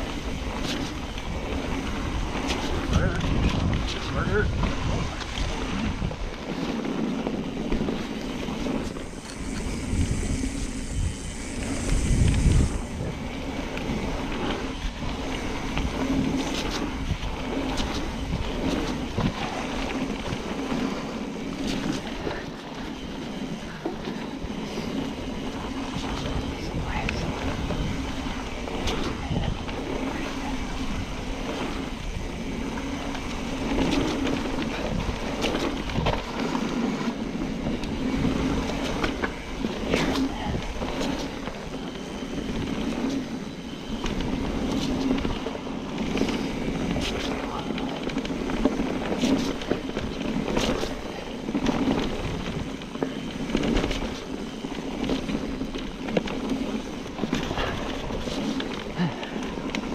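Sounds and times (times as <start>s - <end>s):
tyre and wind rush: 0.0s - 59.9s
bike rattling clicks and knocks: 11.6s - 59.9s.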